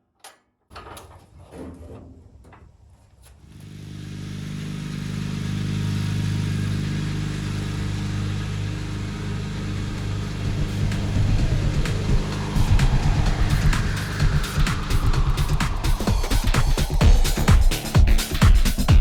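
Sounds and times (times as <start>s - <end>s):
riding mower engine running: 3.4s - 19.0s.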